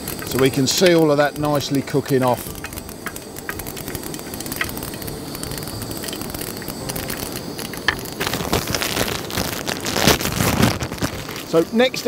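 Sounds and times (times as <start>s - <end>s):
oil popping and crackling: 0.0s - 12.0s
spices sizzling in hot oil: 0.0s - 12.0s.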